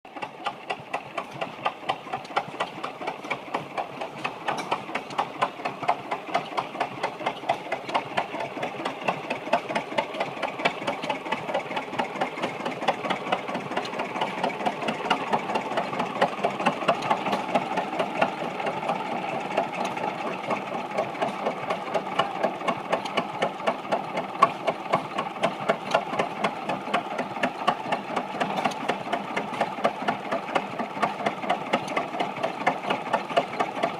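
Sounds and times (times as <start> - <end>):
stationary engine running: 0.1 - 33.9.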